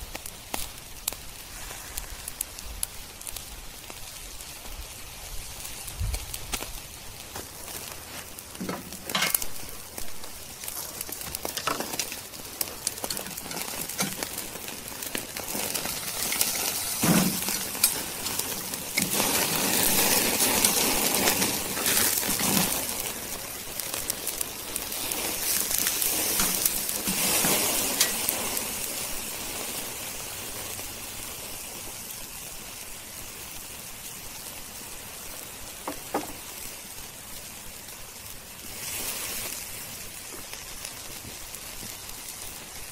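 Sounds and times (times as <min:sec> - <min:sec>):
fat flaring up in coals: 0:00.0 - 0:42.9
steak sizzling on a grill: 0:00.0 - 0:42.9.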